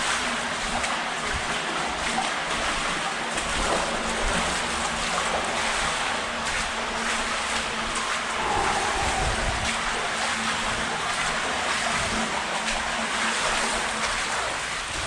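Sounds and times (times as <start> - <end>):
water rushing through tunnel: 0.0 - 15.0.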